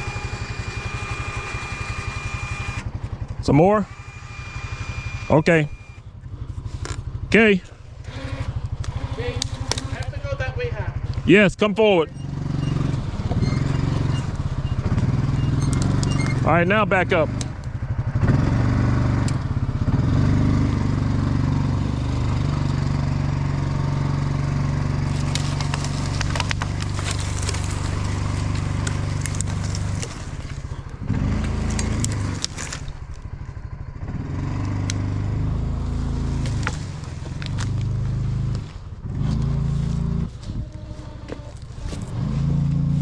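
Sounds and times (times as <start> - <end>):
utility vehicle engine under load: 0.0 - 43.0
branches crackling and scraping: 0.2 - 3.5, 6.1 - 11.3, 12.3 - 16.6, 21.2 - 43.0.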